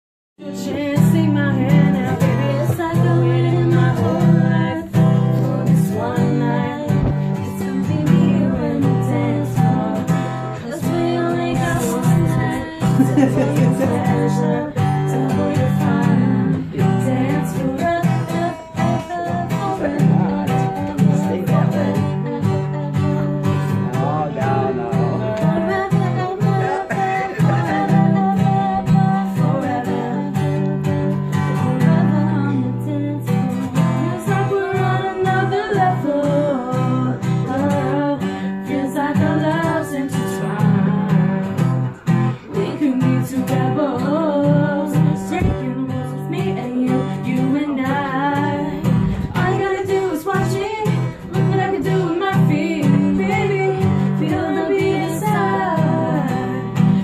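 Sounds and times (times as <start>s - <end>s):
acoustic guitar playing: 0.4s - 57.0s.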